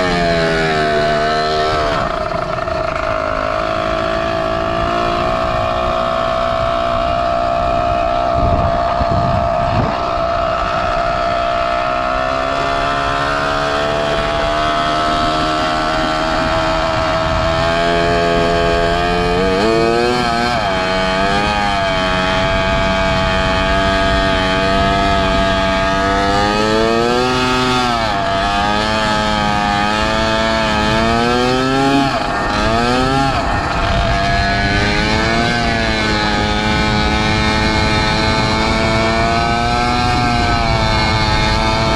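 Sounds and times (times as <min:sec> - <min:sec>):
two-stroke bicycle engine running: 0:00.0 - 0:41.9.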